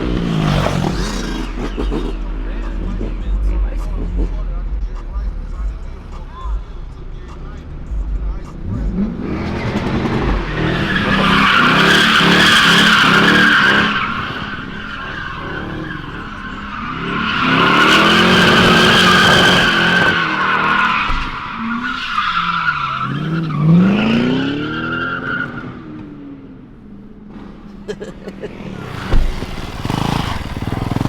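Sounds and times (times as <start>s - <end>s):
tires squealing: 0.0s - 26.4s, 27.3s - 31.0s
car engine revving high: 0.0s - 26.5s, 28.6s - 31.0s.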